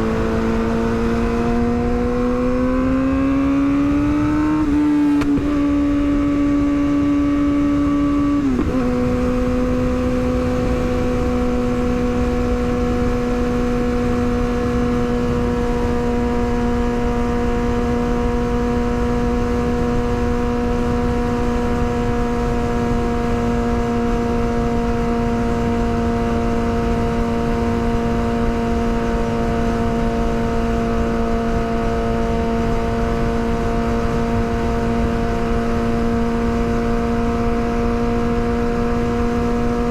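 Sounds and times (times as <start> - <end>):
motorcycle engine at high revs: 0.0 - 39.9
wind noise: 0.0 - 39.9.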